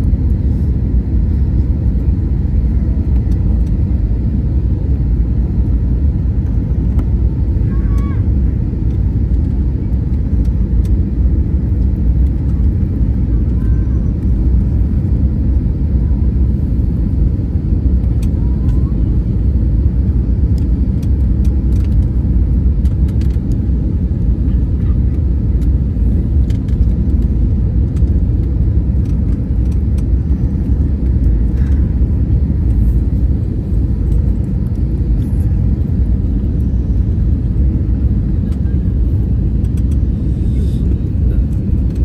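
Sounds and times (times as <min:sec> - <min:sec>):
airliner cabin rumble: 0:00.0 - 0:42.0.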